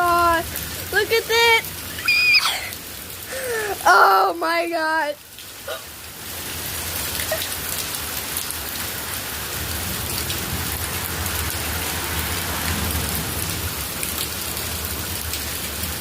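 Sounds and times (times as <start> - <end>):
heavy rain pattering: 0.0 - 16.0.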